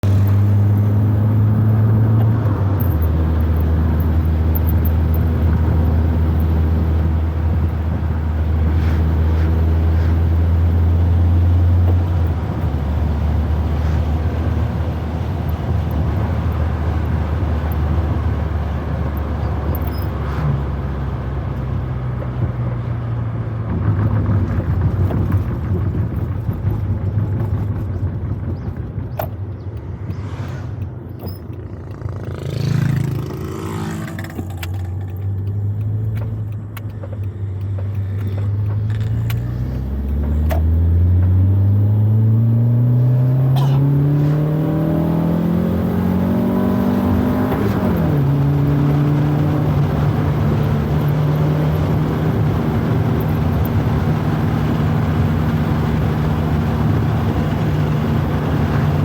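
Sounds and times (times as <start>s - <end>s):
car engine drone from inside: 0.0s - 59.0s.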